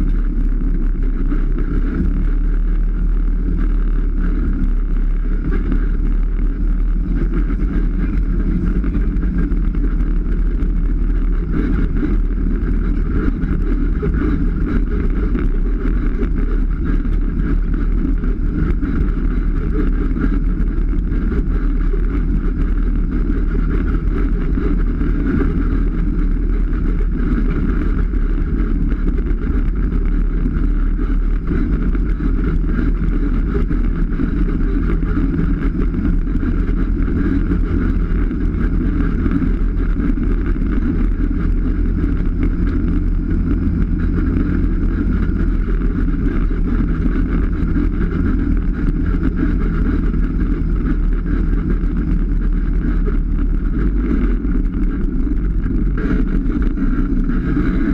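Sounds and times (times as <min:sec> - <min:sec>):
off-road vehicle engine running: 0:00.0 - 0:57.9.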